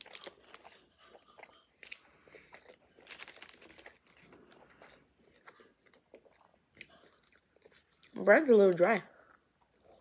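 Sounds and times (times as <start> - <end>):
chewing crusty bread: 0.0 - 10.0.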